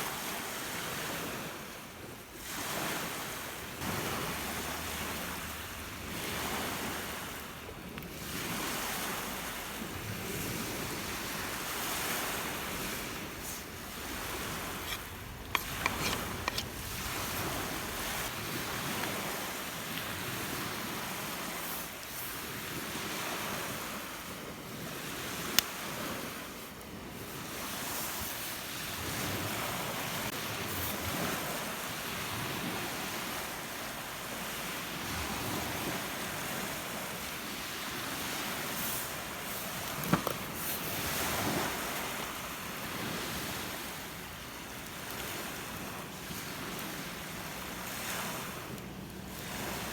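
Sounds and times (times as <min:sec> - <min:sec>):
lake waves breaking on shore: 0:00.0 - 0:49.9
wind: 0:00.0 - 0:49.9.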